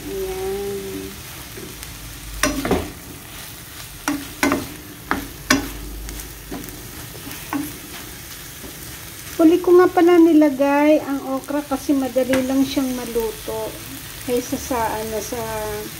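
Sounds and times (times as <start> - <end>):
vegetables sizzling in a pan: 0.0 - 15.9.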